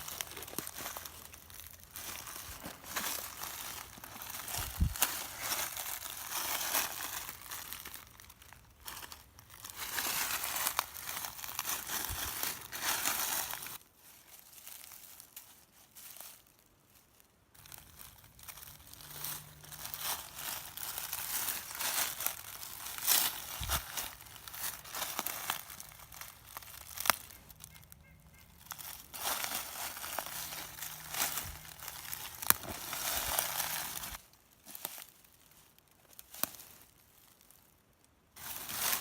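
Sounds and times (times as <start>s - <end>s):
footsteps on dry leaves: 0.0s - 37.7s, 38.4s - 39.0s.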